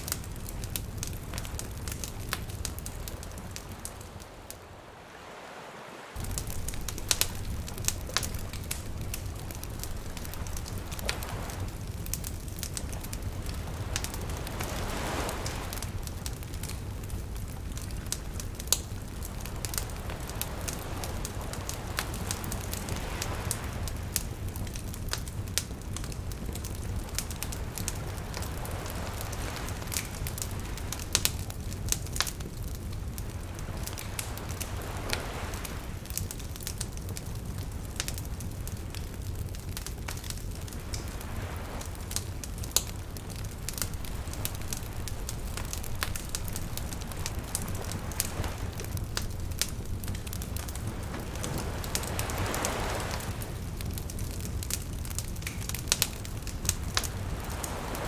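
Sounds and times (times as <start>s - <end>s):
campfire crackling: 0.0s - 58.0s
waves washing in: 0.0s - 58.0s.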